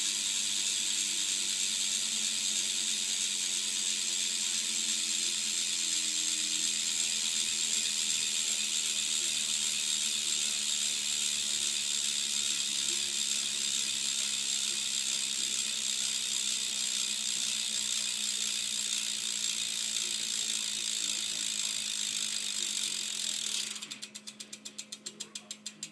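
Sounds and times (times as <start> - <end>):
bicycle hub ratchet buzzing: 0.0 - 25.9.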